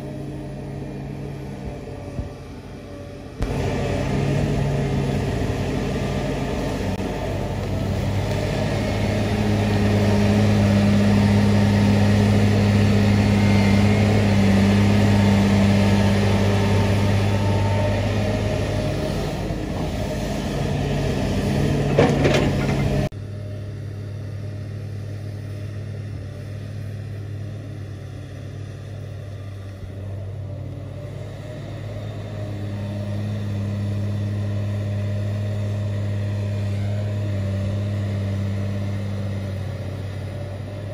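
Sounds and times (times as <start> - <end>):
excavator diesel engine drone: 0.0 - 40.9.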